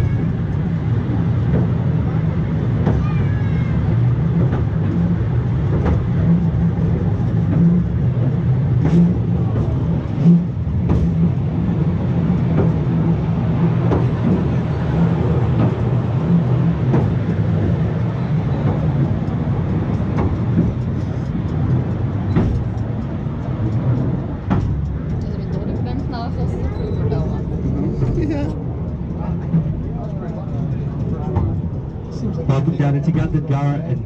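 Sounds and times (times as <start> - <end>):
wheels rumbling on rails: 0.0 - 34.0.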